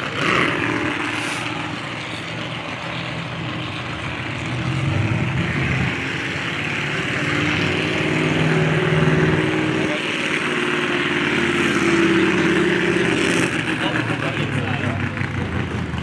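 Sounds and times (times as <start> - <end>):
car engines idling: 0.0 - 16.0.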